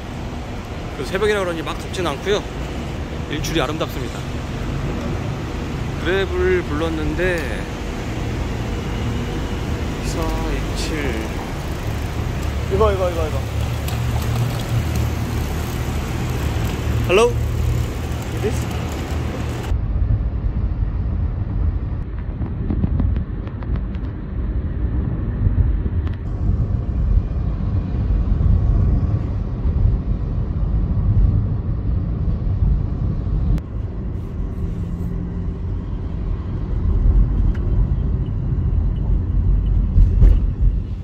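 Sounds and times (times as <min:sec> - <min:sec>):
tyres rumbling on road: 0:00.0 - 0:41.0.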